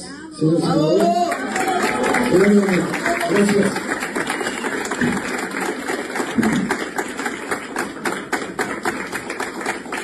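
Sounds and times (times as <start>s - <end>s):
people applauding: 0.6s - 10.0s.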